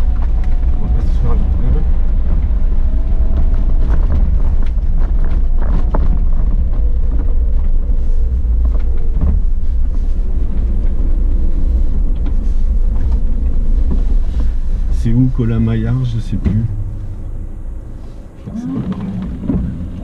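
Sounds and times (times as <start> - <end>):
knocks and rattles over bumps: 0.0 - 20.0
vehicle engine rumble: 0.0 - 20.0.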